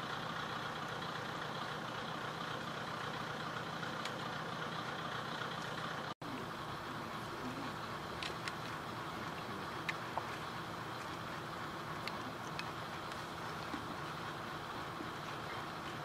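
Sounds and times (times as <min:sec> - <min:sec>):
railcar diesel engine idling: 0:00.0 - 0:16.0.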